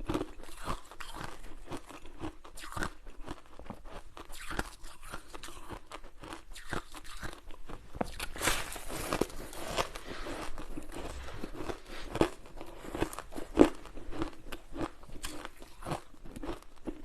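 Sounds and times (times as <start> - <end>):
ice being crunched and chewed: 0.0 - 17.0.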